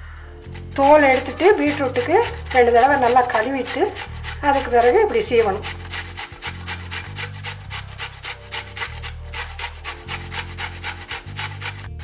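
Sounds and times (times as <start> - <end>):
grater rasping: 0.4 - 12.0.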